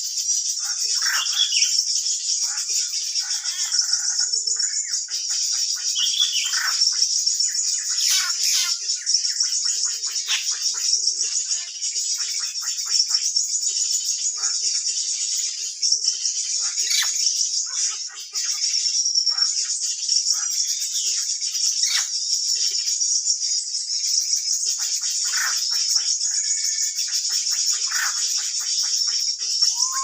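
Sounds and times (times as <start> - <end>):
bird chirps and calls: 0.0 - 30.0.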